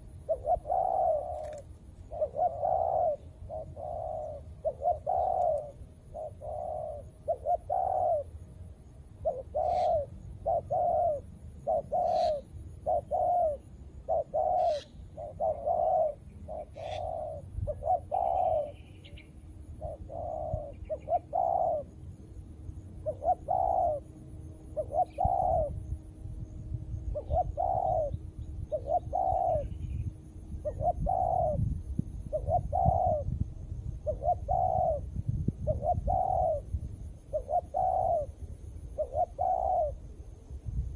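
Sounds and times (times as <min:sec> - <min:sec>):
doves cooing: 0:00.0 - 0:08.5, 0:09.2 - 0:22.1, 0:22.9 - 0:25.9, 0:27.1 - 0:30.0, 0:30.6 - 0:31.7, 0:32.3 - 0:33.4, 0:34.0 - 0:36.7, 0:37.3 - 0:40.2.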